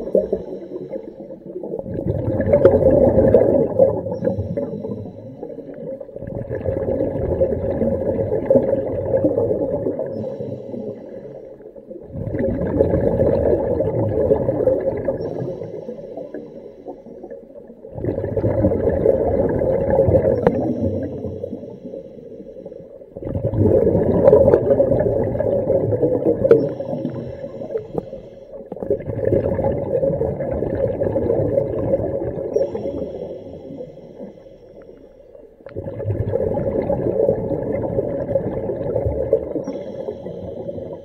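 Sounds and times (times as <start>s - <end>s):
underwater exhaled bubbles gurgling: 0.0s - 41.0s.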